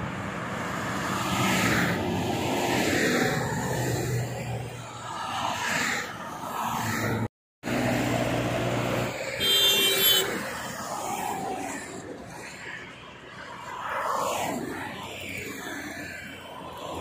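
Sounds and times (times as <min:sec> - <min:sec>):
passing cars rushing: 0:00.0 - 0:17.0.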